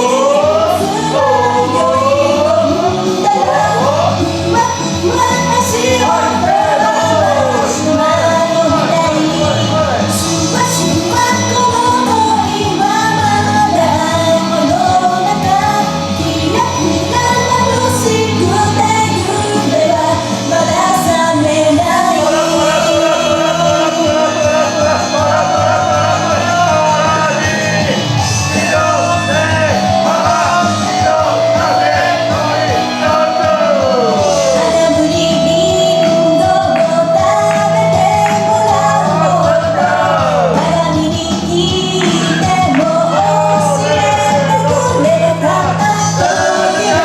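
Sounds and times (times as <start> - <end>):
woman singing pop song: 0.0 - 47.0.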